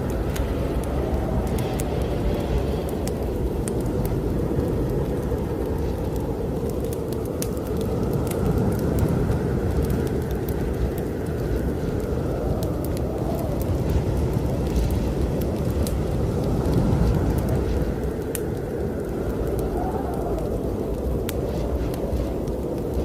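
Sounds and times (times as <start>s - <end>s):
blizzard wind blowing hard: 0.0s - 23.0s
wood fire crackling and popping: 0.0s - 23.0s.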